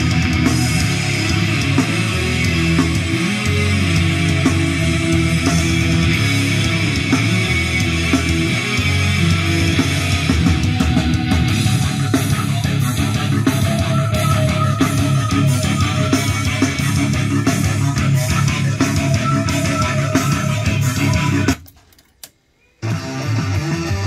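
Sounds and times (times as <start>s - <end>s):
rock music with electric guitar: 0.0s - 21.6s, 22.8s - 24.0s.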